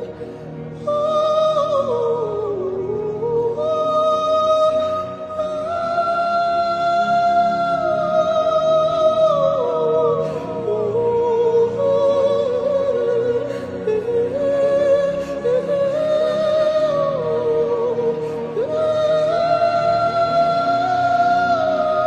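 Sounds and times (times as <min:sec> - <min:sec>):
slow worship music: 0:00.0 - 0:22.0.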